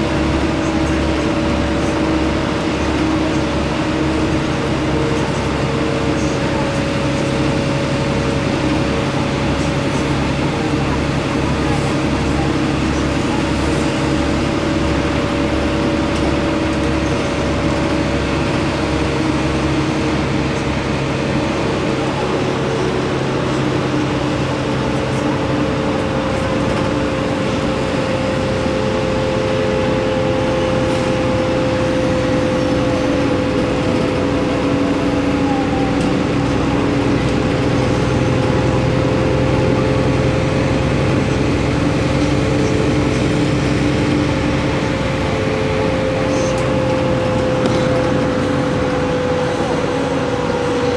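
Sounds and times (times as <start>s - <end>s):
bus engine drone: 0.0s - 50.9s
road noise: 0.0s - 50.9s.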